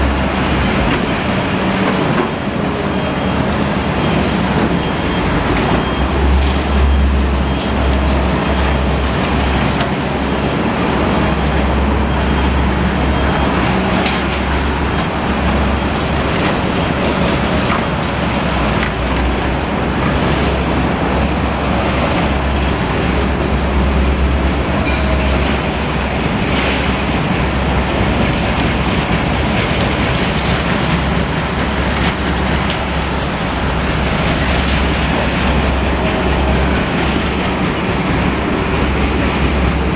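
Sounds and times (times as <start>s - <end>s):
deep continuous rumble: 0.0s - 39.9s.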